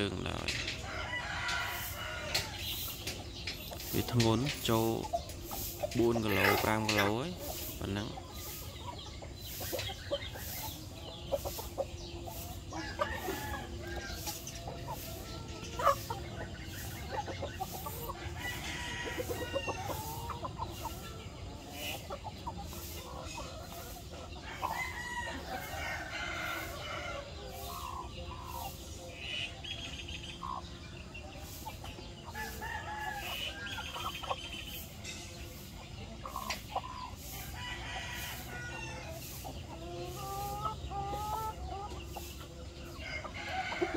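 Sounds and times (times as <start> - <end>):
chickens clucking and calling: 0.0 - 43.9.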